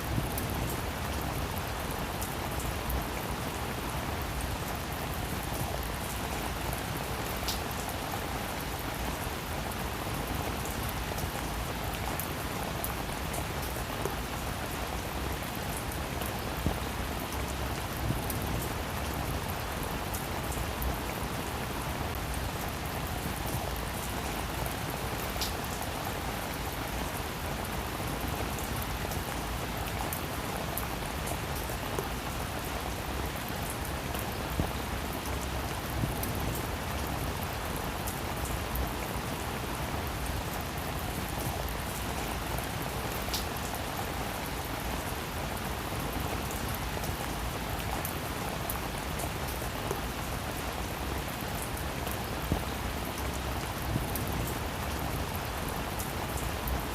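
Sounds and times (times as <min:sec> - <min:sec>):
rain on a roof: 0:00.0 - 0:56.9.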